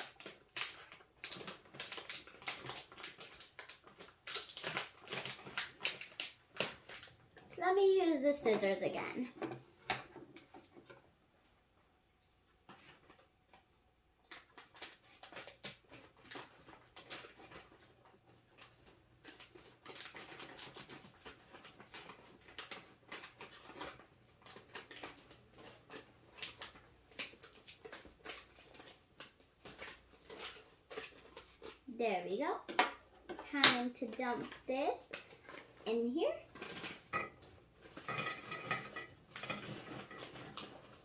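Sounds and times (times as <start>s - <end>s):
plastic bag crinkling: 0.0s - 9.4s, 14.3s - 41.0s.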